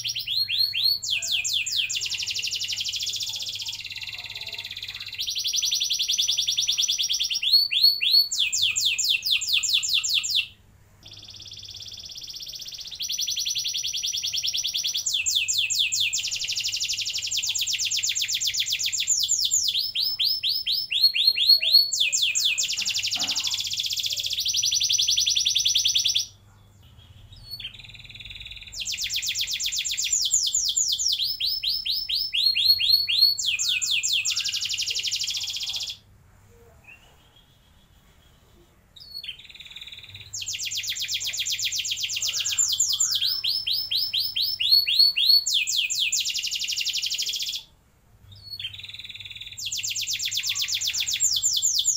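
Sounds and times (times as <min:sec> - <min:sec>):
canary singing trills: 0:00.0 - 0:36.1, 0:36.7 - 0:51.9.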